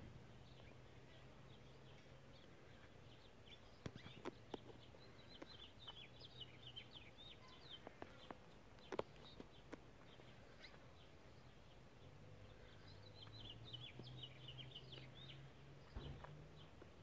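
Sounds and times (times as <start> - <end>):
small bird chirping: 0.2 - 17.0.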